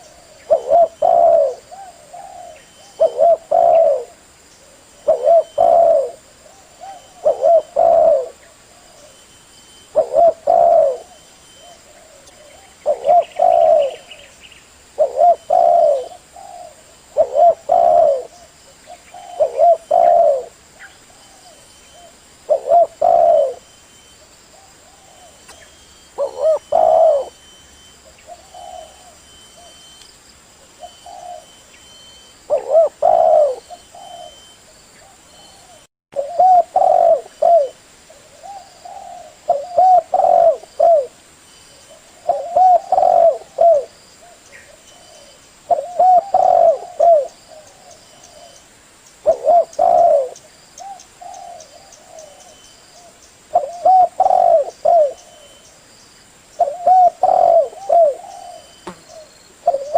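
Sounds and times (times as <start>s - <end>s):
dove cooing: 0.0s - 14.3s, 15.0s - 23.7s, 24.5s - 29.9s, 30.7s - 41.2s, 41.9s - 48.6s, 49.2s - 55.6s, 56.6s - 59.9s.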